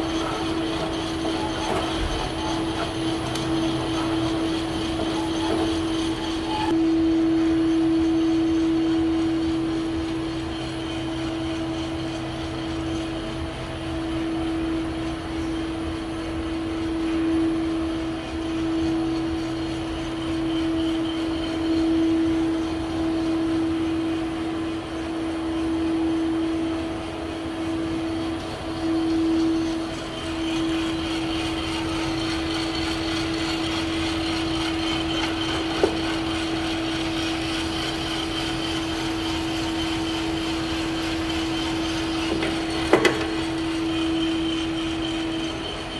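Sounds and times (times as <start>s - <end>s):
coffee roaster humming: 0.0s - 45.9s.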